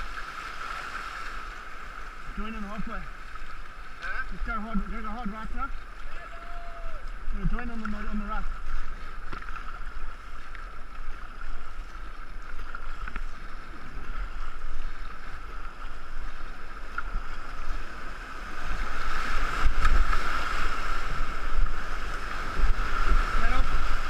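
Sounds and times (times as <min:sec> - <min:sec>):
river water rushing and splashing: 0:00.0 - 0:24.0.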